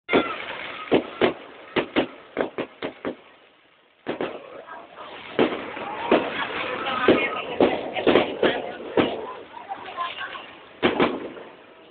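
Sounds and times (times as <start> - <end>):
fireworks bangs: 0.1 - 11.9.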